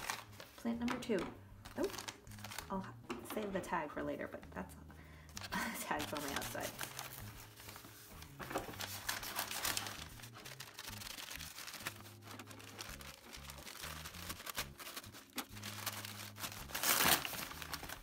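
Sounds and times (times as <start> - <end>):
newspaper crinkling and rustling: 0.0 - 0.7, 1.6 - 2.8, 5.4 - 18.0.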